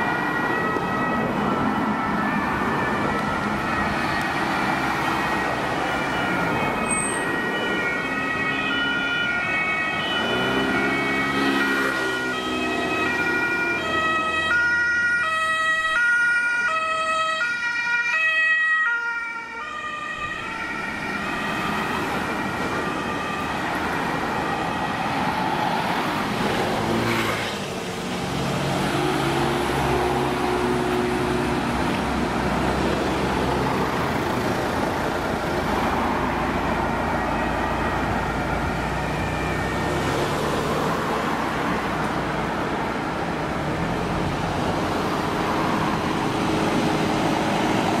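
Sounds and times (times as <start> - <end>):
two-tone ambulance siren: 0.0 - 27.5, 28.1 - 43.1
emergency vehicle engines passing: 0.0 - 48.0
road traffic noise: 0.0 - 48.0.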